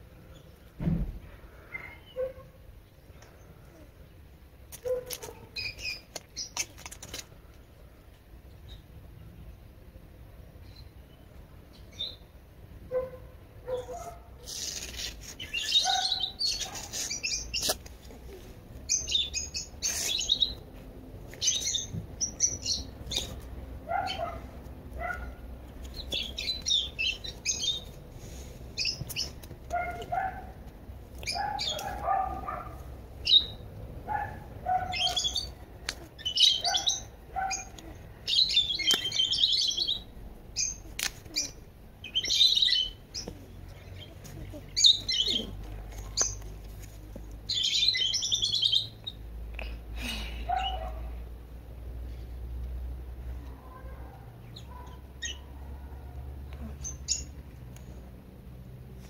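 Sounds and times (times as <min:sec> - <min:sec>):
small birds chirping: 0:01.5 - 0:13.0, 0:13.7 - 0:51.1, 0:53.2 - 0:58.1.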